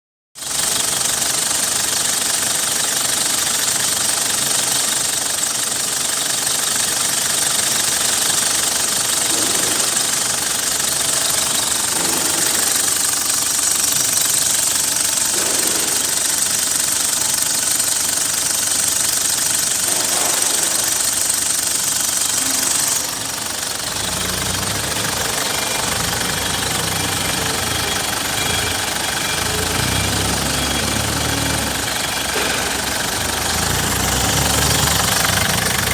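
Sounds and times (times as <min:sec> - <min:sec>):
engine running with knocking clatter: 0:00.4 - 0:35.9.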